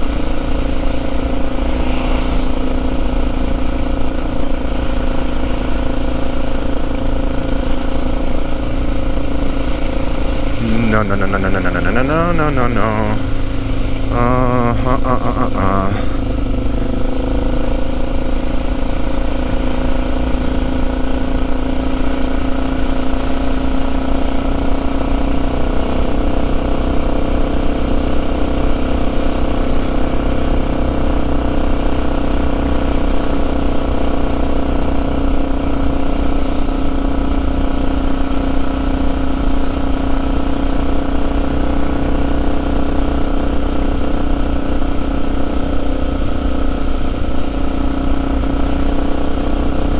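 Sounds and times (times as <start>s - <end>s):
motorcycle engine running steadily: 0.0s - 10.6s, 15.3s - 49.9s.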